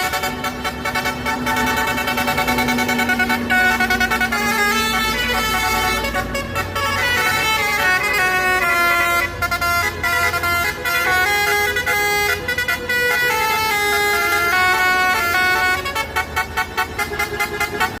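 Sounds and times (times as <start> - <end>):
musical truck air horns: 0.0 - 18.0.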